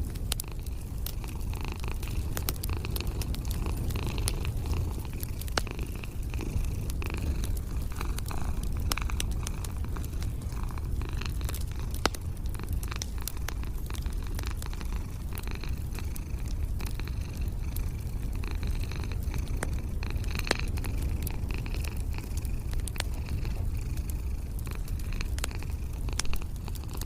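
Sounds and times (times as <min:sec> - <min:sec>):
cat purring: 0:00.0 - 0:27.0
wood fire crackling: 0:00.0 - 0:27.0.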